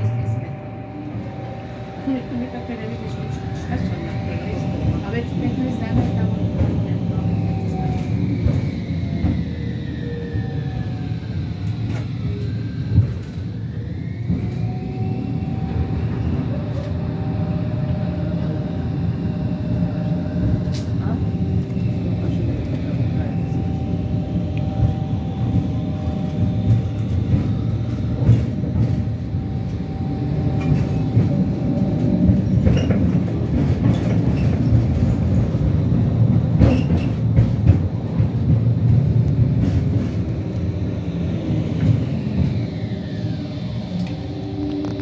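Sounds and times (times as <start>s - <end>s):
tram wheels rumbling on rails: 0.0s - 45.0s.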